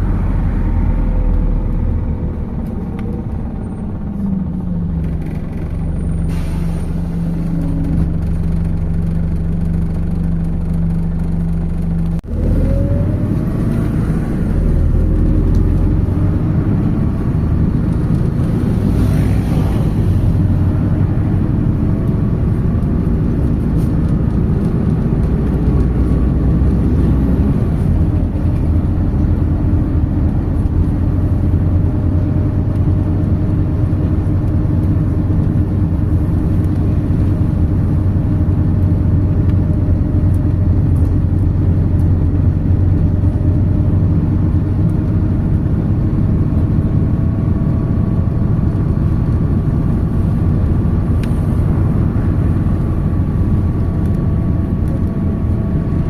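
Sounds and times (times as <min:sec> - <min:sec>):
bus diesel engine: 0:00.0 - 0:56.0
rising drivetrain whine: 0:00.0 - 0:56.0.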